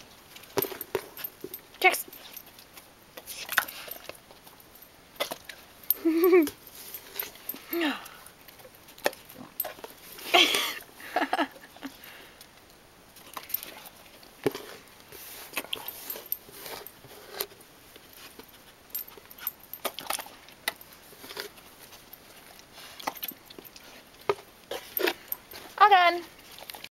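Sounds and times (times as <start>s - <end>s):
puppies chewing and smacking: 0.0s - 26.9s.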